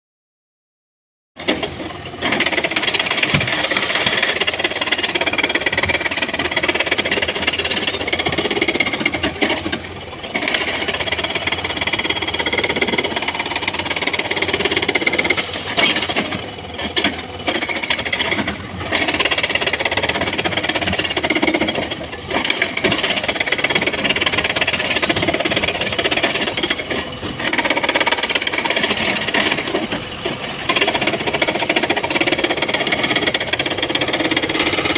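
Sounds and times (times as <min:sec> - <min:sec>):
clatter of stone and steel: 0:01.4 - 0:34.9
diesel engine under load: 0:01.4 - 0:34.9.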